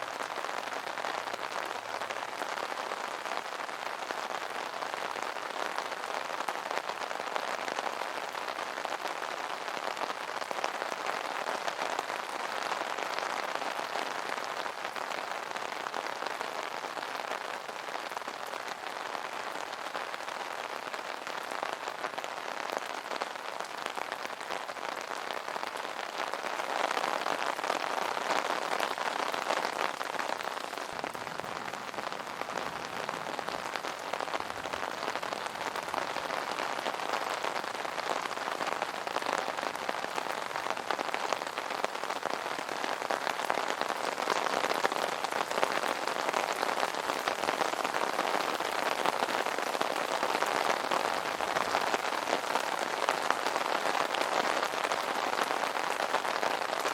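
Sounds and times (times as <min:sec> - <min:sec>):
rain pattering on an umbrella: 0:00.0 - 0:56.9.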